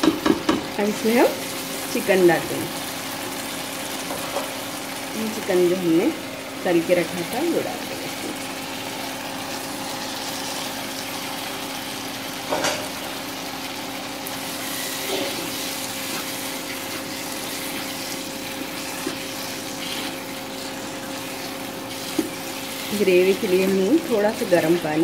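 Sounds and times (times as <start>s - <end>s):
gravy sizzling in a wok: 0.0s - 25.0s.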